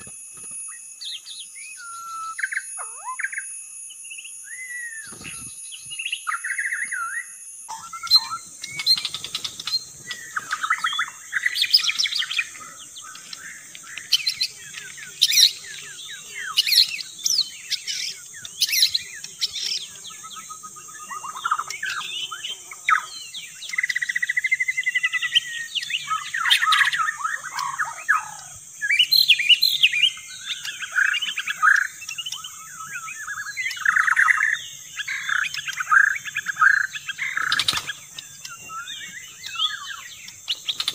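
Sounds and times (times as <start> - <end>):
bird singing: 0.0 - 40.9
high-pitched drone: 0.0 - 40.9.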